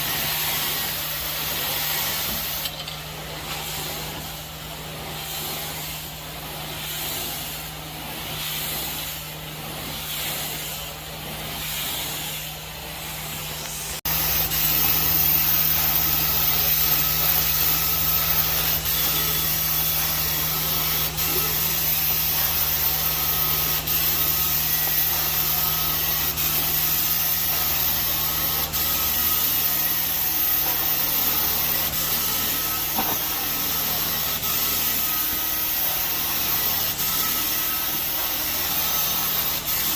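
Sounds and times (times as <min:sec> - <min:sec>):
carpet cleaning wand hissing: 0:00.0 - 0:02.7, 0:03.3 - 0:39.9.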